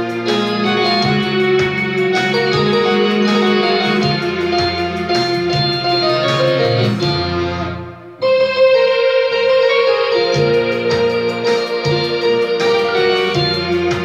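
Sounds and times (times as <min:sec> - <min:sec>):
digital piano melody: 0:00.0 - 0:14.0.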